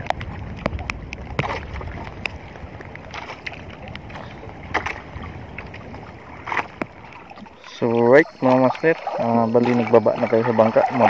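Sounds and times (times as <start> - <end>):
water slapping against boat: 0.0 - 11.0
wind on microphone: 0.0 - 11.0.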